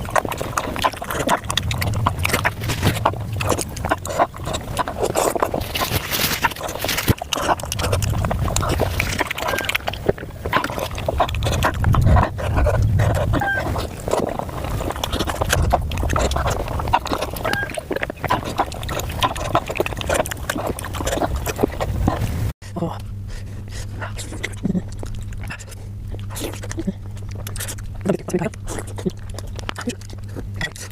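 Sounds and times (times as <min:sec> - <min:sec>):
low rumble: 0:00.0 - 0:30.6
chewing and lip-smacking: 0:00.0 - 0:30.9.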